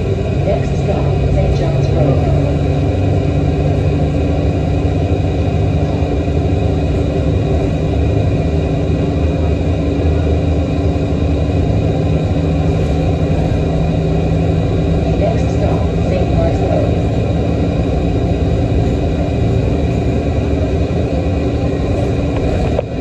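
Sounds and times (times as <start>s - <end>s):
bus engine drone: 0.0s - 23.0s
road rumble: 0.0s - 23.0s.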